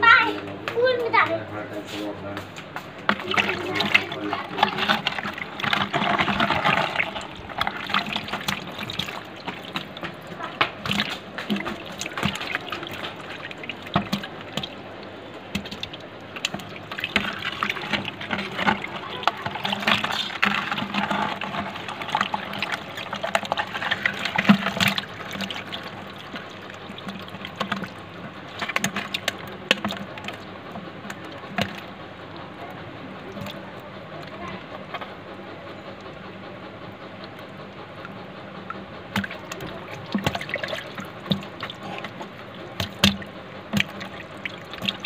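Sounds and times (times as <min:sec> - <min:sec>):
water splashing in a bucket: 0:01.8 - 0:45.0
fish thrashing: 0:02.6 - 0:45.0.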